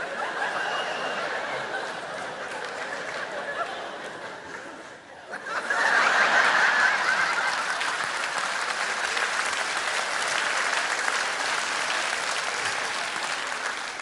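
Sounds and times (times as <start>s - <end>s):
audience applauding: 0.0s - 3.7s, 5.8s - 14.0s.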